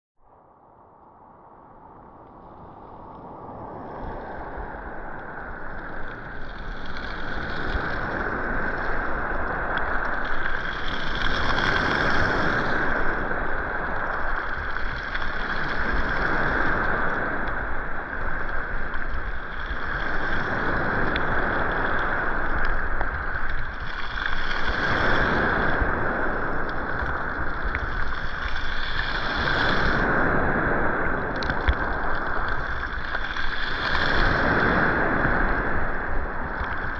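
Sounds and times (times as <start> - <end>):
sea waves breaking on beach: 2.5 - 36.9.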